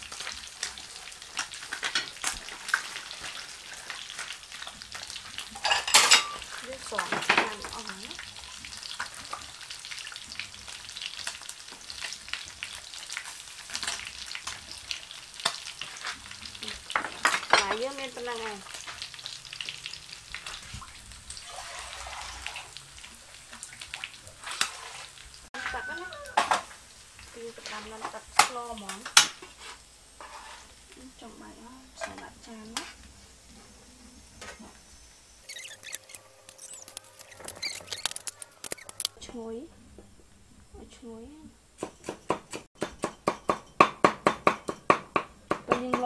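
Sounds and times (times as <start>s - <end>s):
fish frying in oil: 0.0s - 39.7s.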